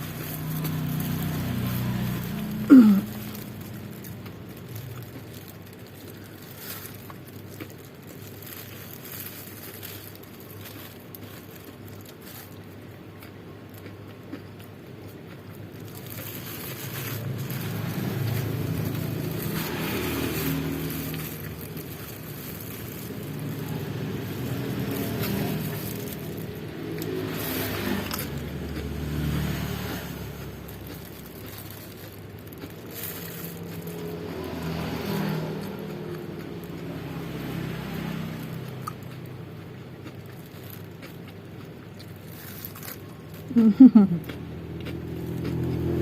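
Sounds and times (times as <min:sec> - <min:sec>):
motor vehicles passing: 0:00.0 - 0:46.0.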